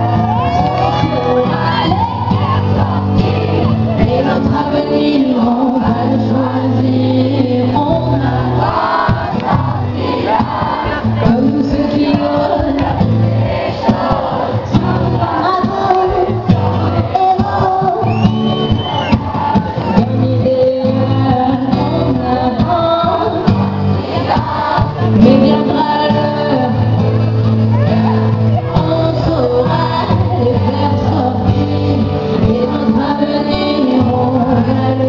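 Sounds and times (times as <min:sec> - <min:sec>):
woman singing pop song: 0:00.0 - 0:18.7, 0:19.6 - 0:35.0
audience singing along: 0:00.0 - 0:20.0, 0:21.6 - 0:35.0
acoustic guitar: 0:00.0 - 0:35.0.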